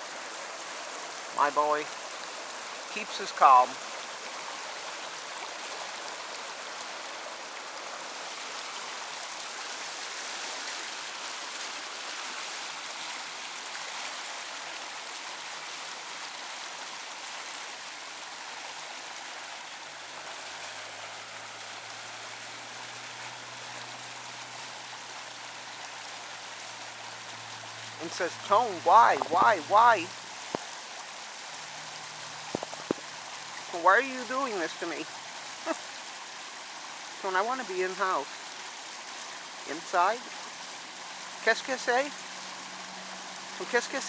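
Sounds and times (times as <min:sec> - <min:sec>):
fast-flowing water rushing: 0:00.0 - 0:44.0.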